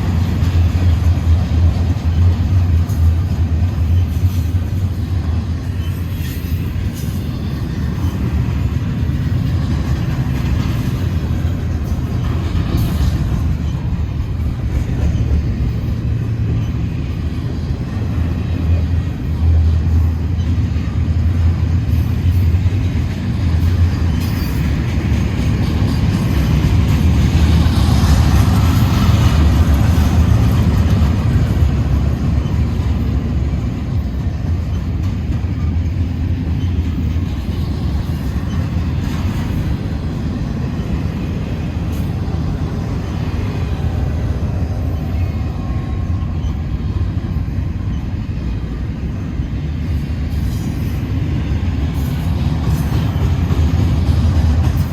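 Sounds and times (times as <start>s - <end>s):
freight train wheels rumbling on rail: 0.0s - 54.9s
train cars rattling: 0.0s - 54.9s.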